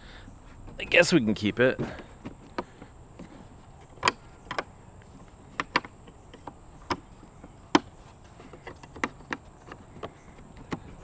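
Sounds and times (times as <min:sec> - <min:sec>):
faint high-pitched whine: 0:00.0 - 0:11.0
clicks and knocks of handling: 0:01.8 - 0:11.0.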